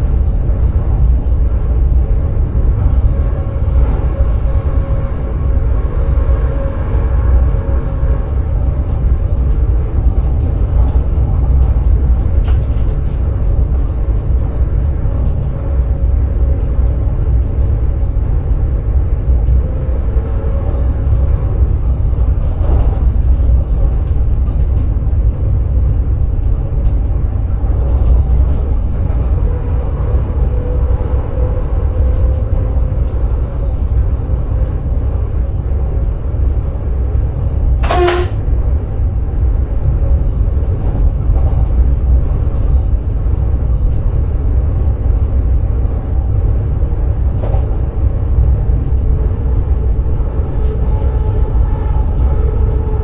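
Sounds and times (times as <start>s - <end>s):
traction equipment hum: 0.0s - 53.0s
train wheels rumbling: 0.0s - 53.0s.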